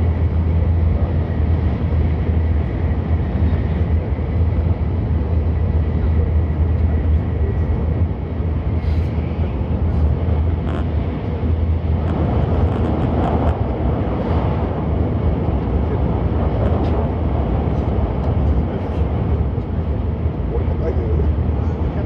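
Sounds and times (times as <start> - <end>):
train cabin rumble: 0.0 - 22.0.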